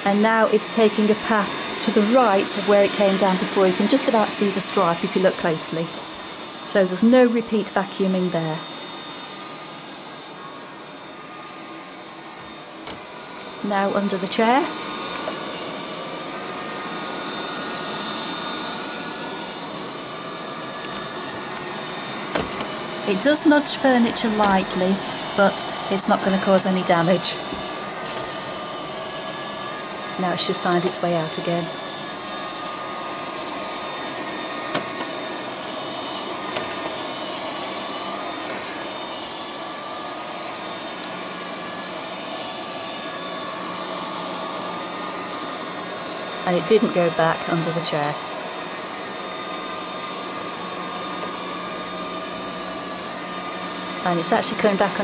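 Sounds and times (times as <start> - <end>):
robot vacuum cleaner whirring: 0.0 - 55.0.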